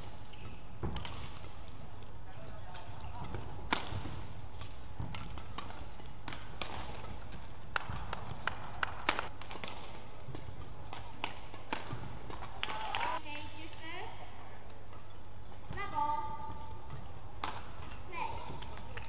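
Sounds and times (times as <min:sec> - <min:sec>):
racket striking shuttlecock: 0:00.0 - 0:13.8, 0:14.7 - 0:19.0
low hum in hall: 0:00.0 - 0:19.0.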